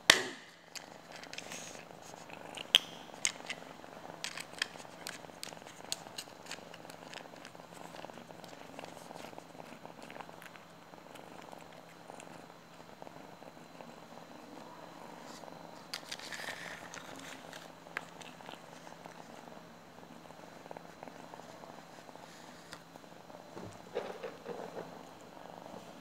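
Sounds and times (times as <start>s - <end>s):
kitten purring: 0.7s - 26.0s.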